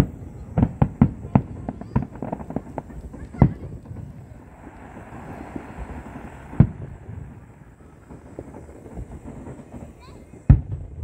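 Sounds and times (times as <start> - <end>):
fireworks bangs and pops: 0.0 - 11.0
loud firework bang: 0.0 - 11.0
steady hiss: 0.0 - 11.0.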